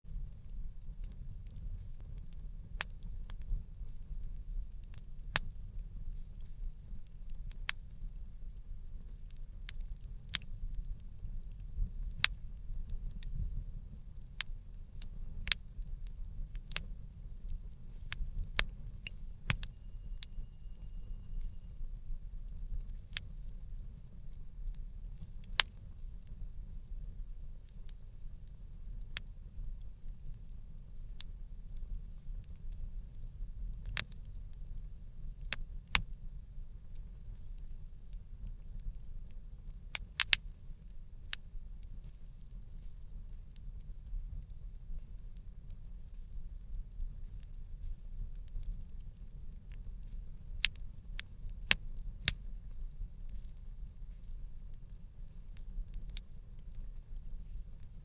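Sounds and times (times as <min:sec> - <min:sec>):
campfire crackling and popping: 0:00.1 - 0:58.0.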